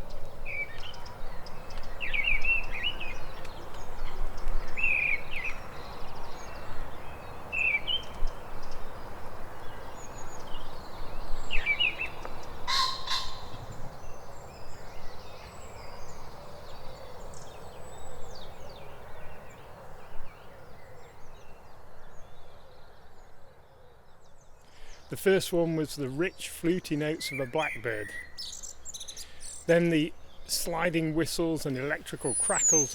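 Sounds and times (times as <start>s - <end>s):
outdoor background hiss: 0.0s - 32.9s.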